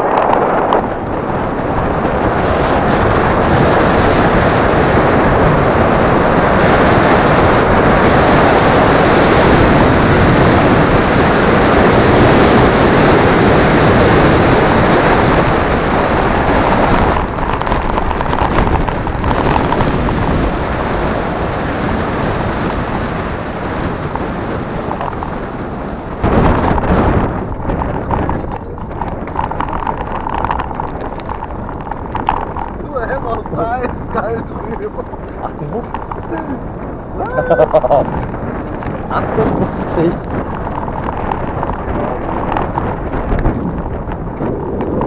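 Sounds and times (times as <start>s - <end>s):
bike tyres on rough trail: 0.0s - 45.0s
wind on microphone: 0.0s - 45.0s.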